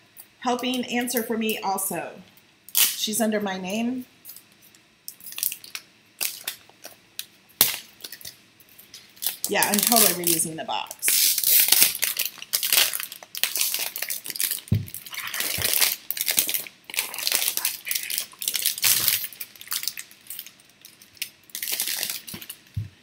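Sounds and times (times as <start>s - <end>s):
plastic wrapping crinkling: 4.3s - 23.0s.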